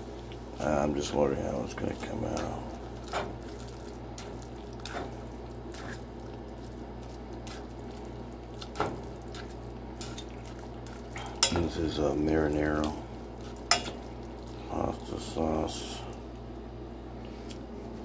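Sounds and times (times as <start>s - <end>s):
wet squishing of stirred noodles: 0.0s - 16.7s.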